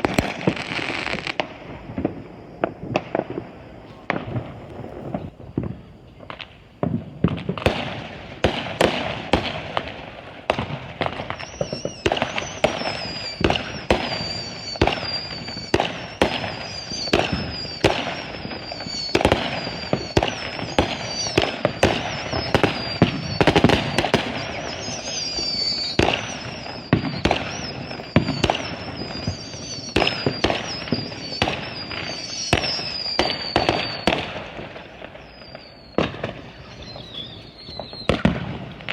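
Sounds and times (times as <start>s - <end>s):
falling firework whistle: 0.0s - 38.9s
fireworks bangs and crackles: 0.0s - 38.9s.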